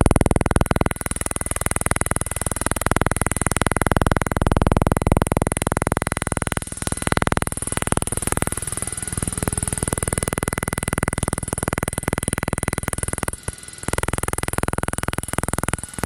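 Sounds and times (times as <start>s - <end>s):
pulsing electronic buzz: 0.0s - 16.0s
steady high whine: 0.0s - 16.0s.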